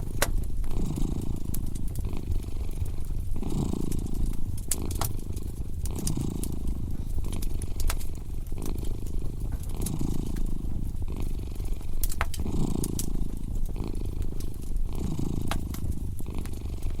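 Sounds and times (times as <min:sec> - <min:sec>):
cat purring: 0:00.0 - 0:17.0
fireplace fire crackling: 0:00.0 - 0:17.0.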